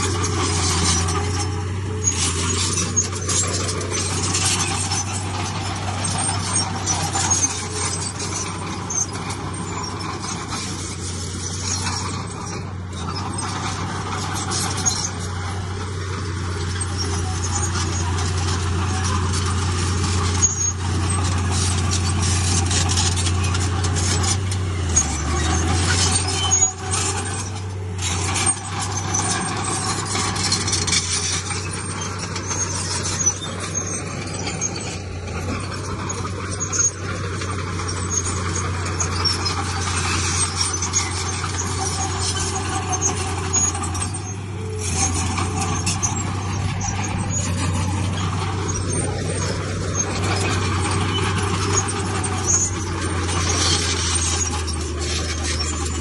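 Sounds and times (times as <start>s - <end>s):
clanks and knocks: 0.0s - 56.0s
diesel machinery running: 0.0s - 56.0s.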